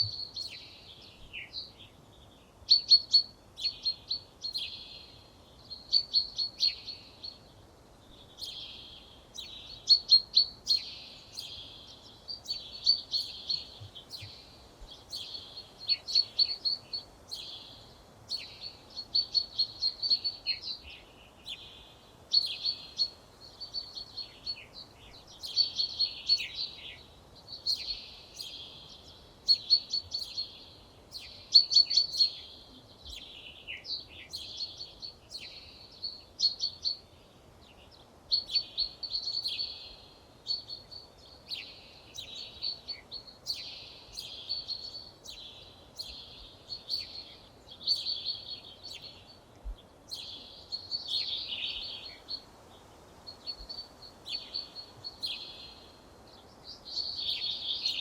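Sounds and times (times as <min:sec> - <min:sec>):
songbirds twittering: 0:00.0 - 0:58.0.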